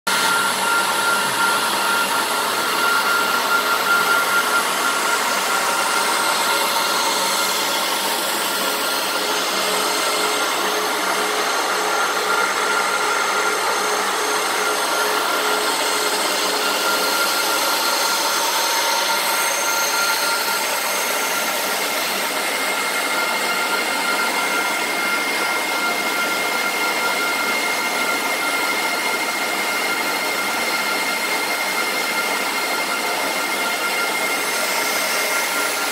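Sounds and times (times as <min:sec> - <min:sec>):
cooling fans rushing with whine: 0:00.1 - 0:35.9.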